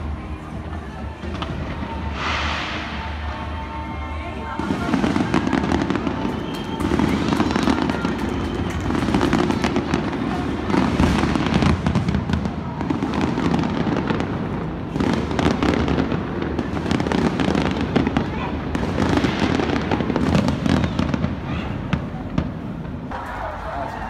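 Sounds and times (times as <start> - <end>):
fireworks booming and crackling: 0.0 - 23.8.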